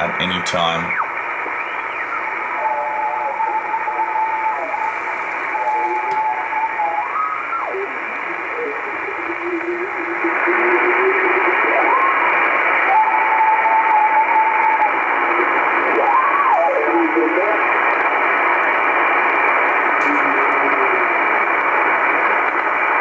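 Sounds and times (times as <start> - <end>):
radio hiss: 0.0 - 23.0
radio whistling tone: 0.0 - 23.0.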